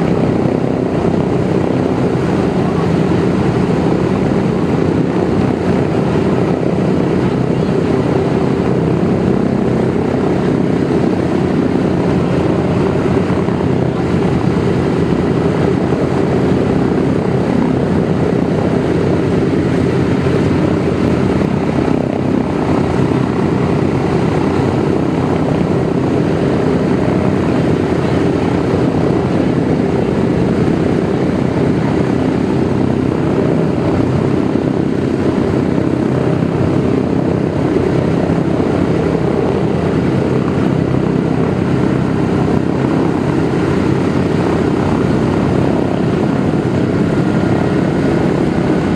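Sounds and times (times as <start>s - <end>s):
propeller engines droning: 0.0s - 48.9s.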